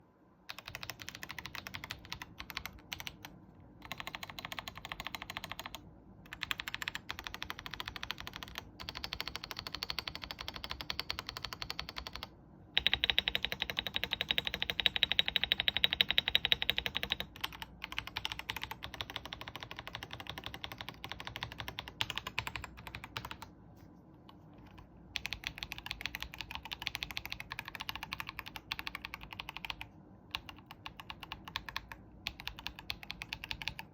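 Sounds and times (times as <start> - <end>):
mechanical keyboard typing: 0.5 - 23.5, 24.3 - 33.9.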